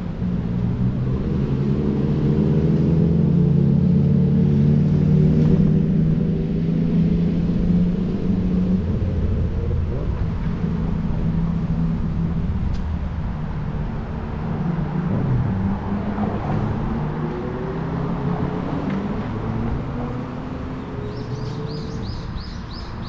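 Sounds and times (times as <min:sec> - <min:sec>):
car engines passing: 0:00.0 - 0:23.0.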